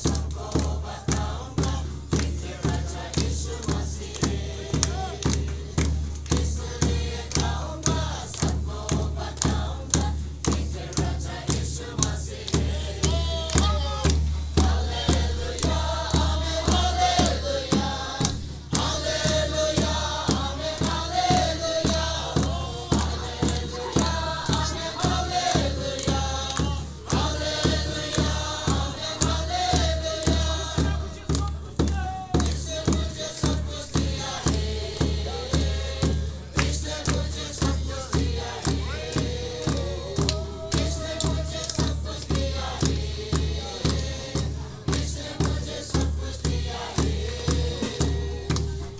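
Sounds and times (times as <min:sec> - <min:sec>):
drum beating: 0:00.0 - 0:48.9
group singing in unison: 0:00.0 - 0:48.9
hand claps: 0:00.0 - 0:48.9.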